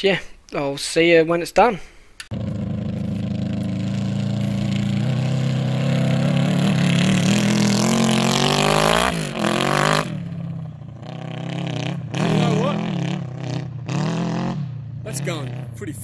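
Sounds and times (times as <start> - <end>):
quad bike engine accelerating: 2.3 - 16.0.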